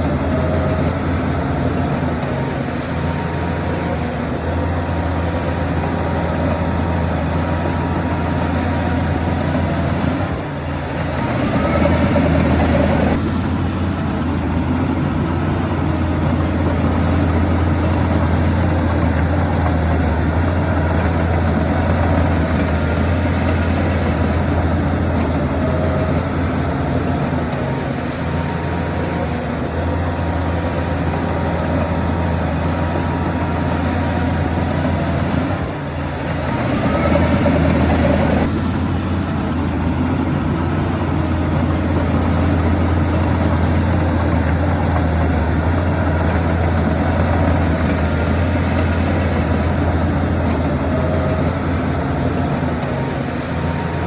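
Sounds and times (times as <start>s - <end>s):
diesel machinery droning: 0.0s - 54.0s.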